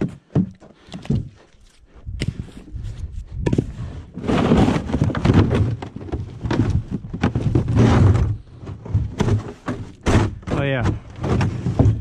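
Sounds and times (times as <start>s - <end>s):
firewood logs knocking and clattering: 0.0s - 2.4s, 3.4s - 12.0s.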